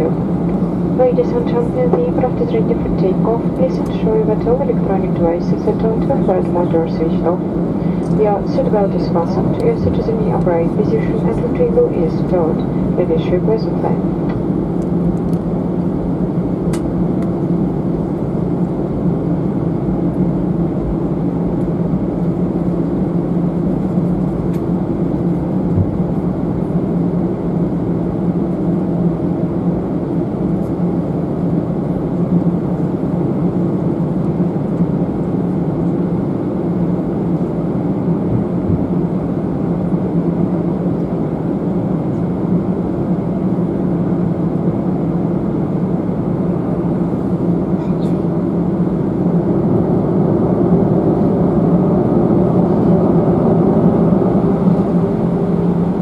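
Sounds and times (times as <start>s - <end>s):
aircraft cabin engine hum: 0.0s - 56.0s.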